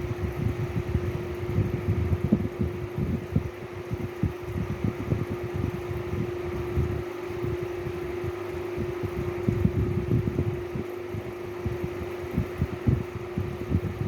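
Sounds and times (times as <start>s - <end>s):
fan motor humming: 0.0s - 14.0s.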